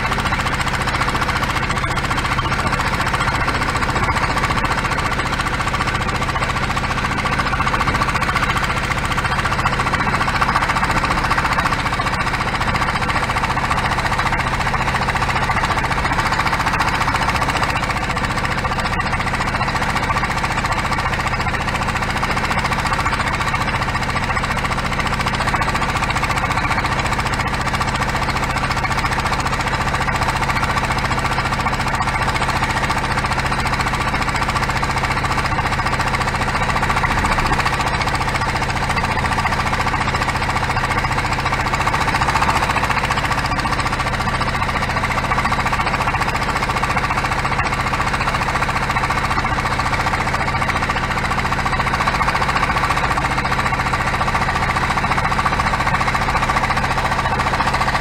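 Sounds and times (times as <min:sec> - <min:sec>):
boat engine knocking: 0:00.0 - 0:58.0.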